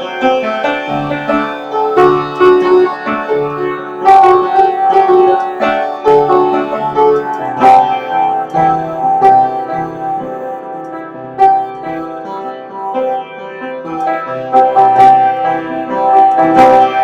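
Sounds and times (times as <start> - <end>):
struck or plucked melody: 0.0 - 17.0.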